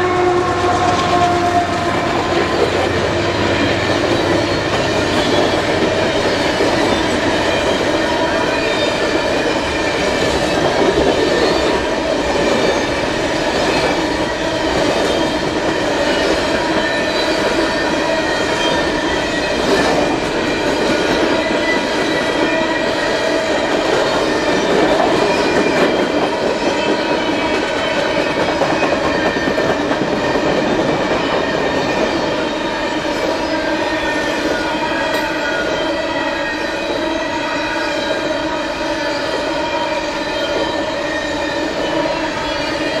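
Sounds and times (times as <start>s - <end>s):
wheels rumbling and rattling on rail: 0.0s - 37.4s.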